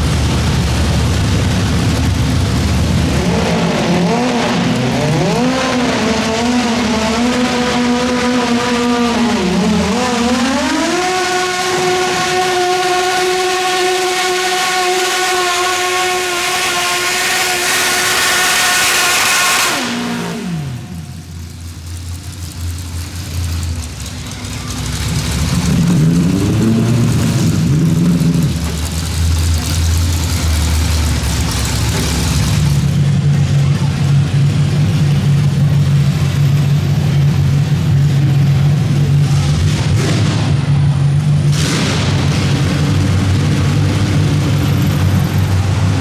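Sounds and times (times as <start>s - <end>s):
garden tractor engine under load: 0.0s - 40.0s, 40.8s - 46.0s
lower engine sound: 0.0s - 46.0s.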